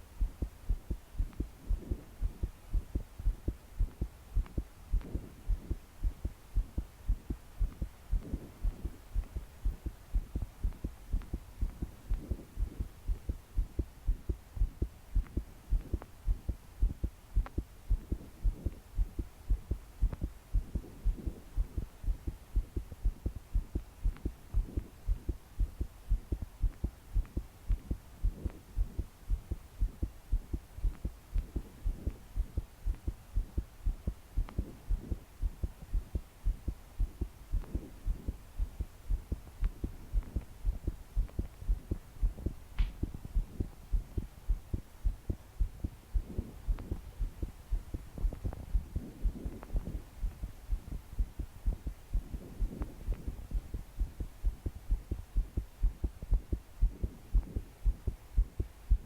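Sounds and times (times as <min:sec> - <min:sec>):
fast pounding heartbeat: 0:00.0 - 0:59.0.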